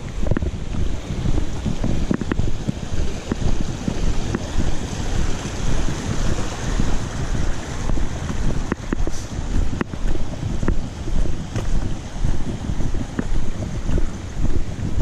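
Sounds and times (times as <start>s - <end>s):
creek running: 0.0s - 15.0s
wind rumble on camera: 0.0s - 15.0s.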